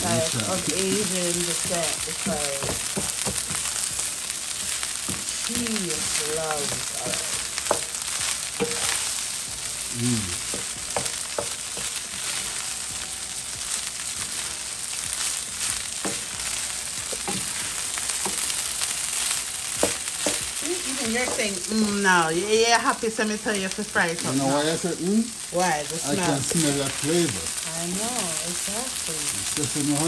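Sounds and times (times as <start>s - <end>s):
rice sizzling in oil: 0.0s - 30.0s.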